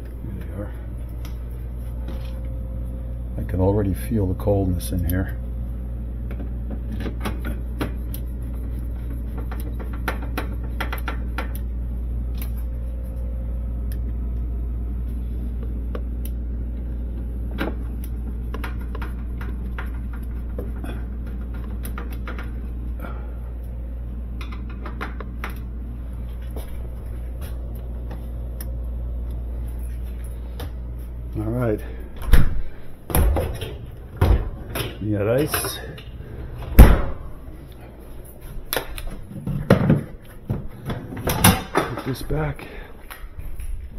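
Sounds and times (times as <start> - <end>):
refrigerator machinery humming: 0.0 - 43.9.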